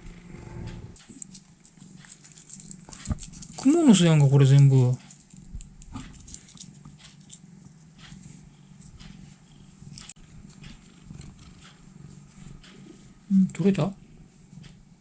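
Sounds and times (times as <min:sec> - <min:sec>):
fingers rustling in fur: 0:00.0 - 0:13.3
cat purring: 0:00.0 - 0:15.0.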